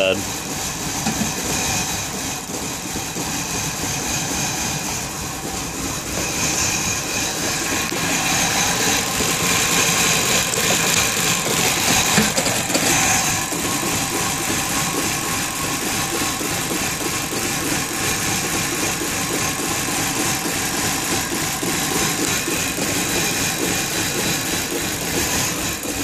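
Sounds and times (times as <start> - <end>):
car engine idling rough: 0.0 - 26.0.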